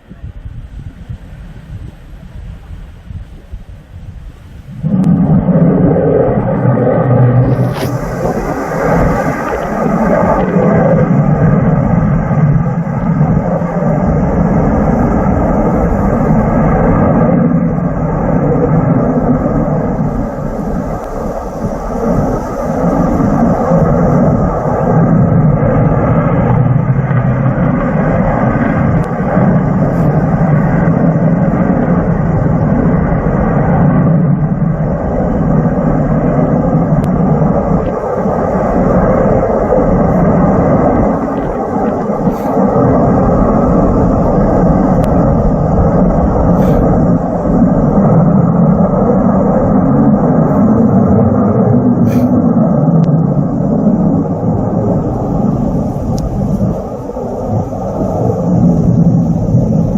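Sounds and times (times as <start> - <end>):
wind buffeting microphone: 0.0 - 59.9
jet engines running: 1.1 - 59.9.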